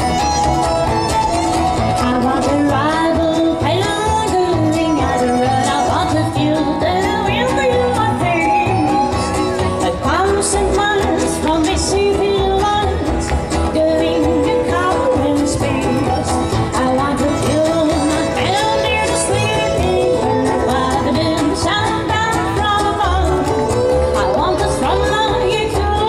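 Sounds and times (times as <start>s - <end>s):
acoustic guitar strumming: 0.0s - 26.0s
fiddle: 0.0s - 26.0s
upright bass: 0.0s - 26.0s
woman singing: 1.9s - 26.0s.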